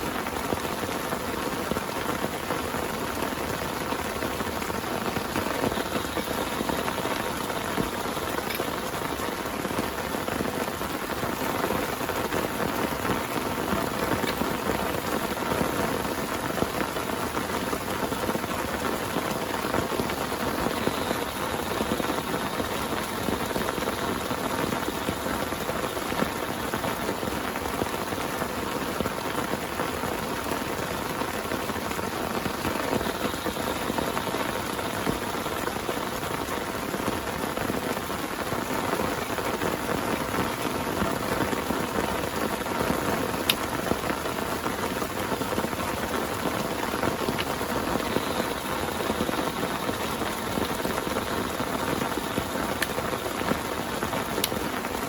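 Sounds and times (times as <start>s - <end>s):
heavy rain on a tent: 0.0s - 55.0s.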